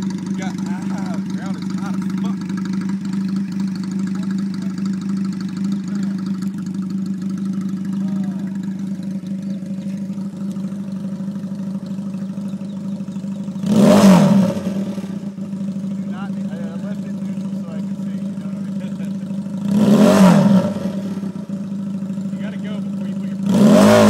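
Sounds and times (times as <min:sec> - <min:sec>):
motorcycle engine idling: 0:00.0 - 0:24.0
motorcycle engine revving: 0:00.0 - 0:24.0.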